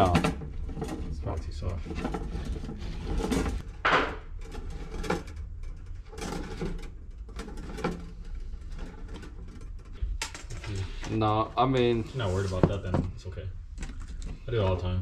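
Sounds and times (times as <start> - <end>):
metal tubing scraping and rattling: 0.0 - 14.9.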